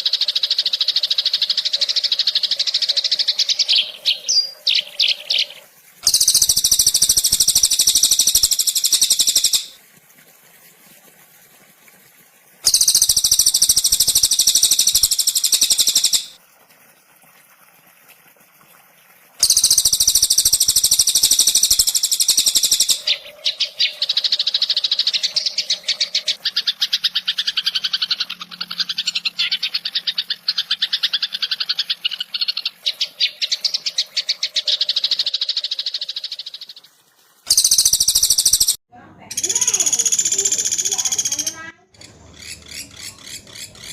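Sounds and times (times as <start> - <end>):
songbird trills: 0.0 - 9.8, 12.7 - 16.4, 19.4 - 36.8, 37.5 - 43.9.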